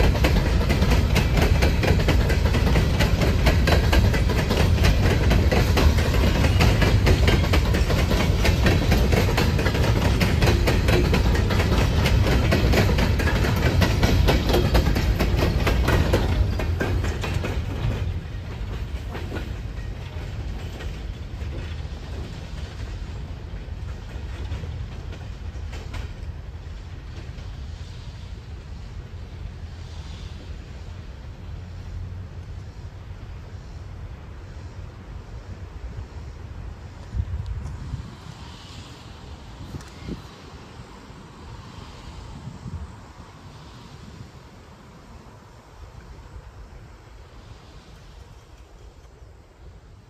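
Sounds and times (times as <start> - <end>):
freight train rumble: 0.0 - 50.0
train wheels clicking over rail joints: 0.0 - 50.0.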